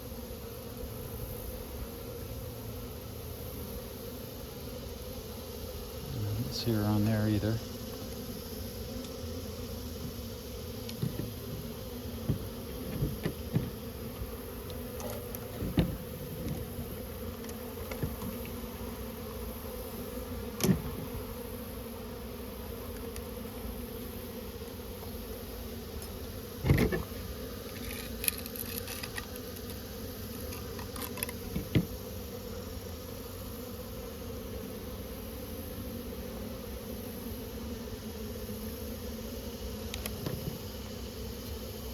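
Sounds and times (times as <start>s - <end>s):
bees buzzing: 0.0s - 41.9s.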